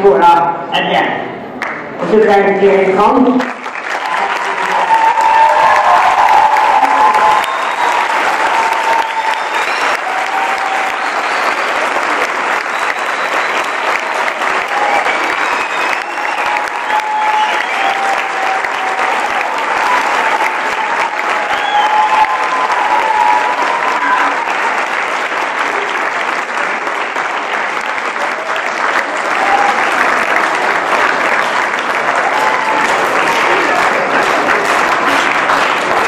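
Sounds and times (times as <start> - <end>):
audience applauding: 3.3 - 36.0.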